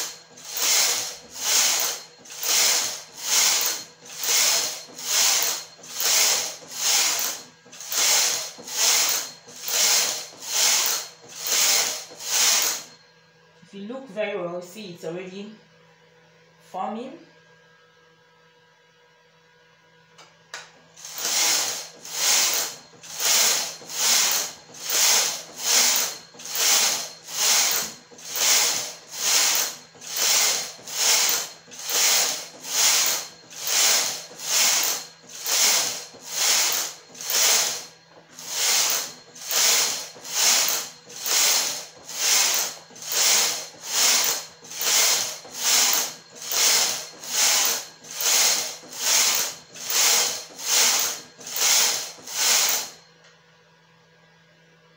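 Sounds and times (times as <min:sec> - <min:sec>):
knitting machine carriage swishing: 0:00.0 - 0:12.9, 0:21.2 - 0:37.8, 0:38.4 - 0:52.9.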